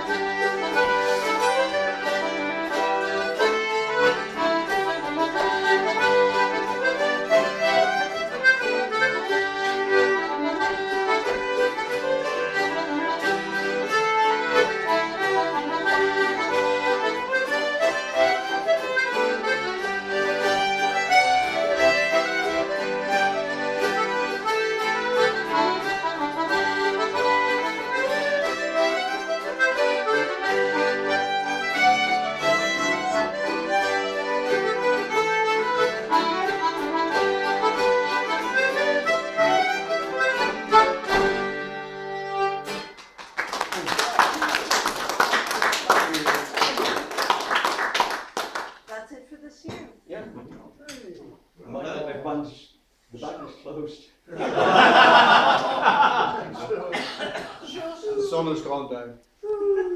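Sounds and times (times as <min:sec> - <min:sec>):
folk tune by instrumental group: 0:00.0 - 0:51.6, 0:52.8 - 0:59.9.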